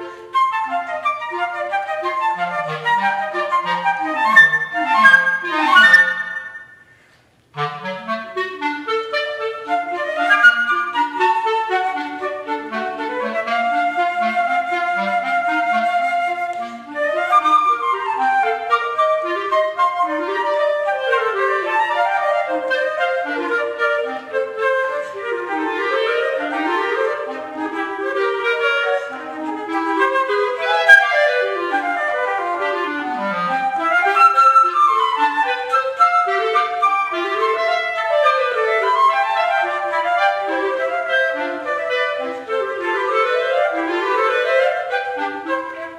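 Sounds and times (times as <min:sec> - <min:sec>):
clarinet playing fast runs: 0:00.0 - 0:07.0, 0:07.6 - 0:45.9
flute playing fast runs: 0:00.0 - 0:07.0, 0:07.6 - 0:45.9.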